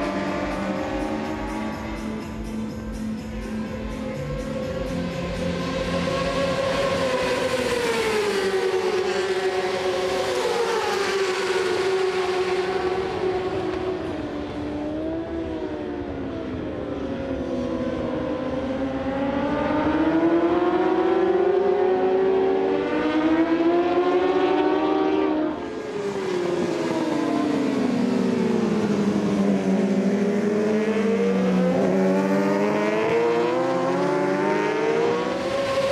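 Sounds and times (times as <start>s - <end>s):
racing motorbike engines: 0.0s - 35.9s.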